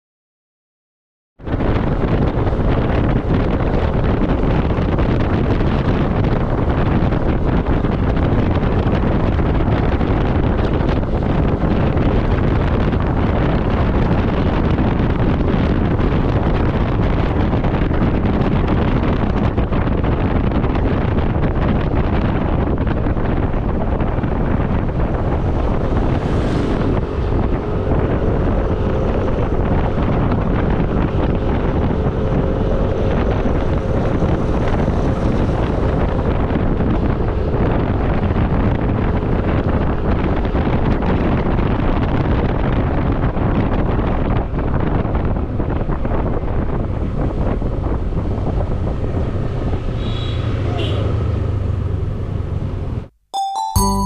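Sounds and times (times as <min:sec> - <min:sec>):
road noise: 0:01.4 - 0:43.6, 0:44.2 - 0:53.1
wind rush over microphone: 0:01.4 - 0:53.1.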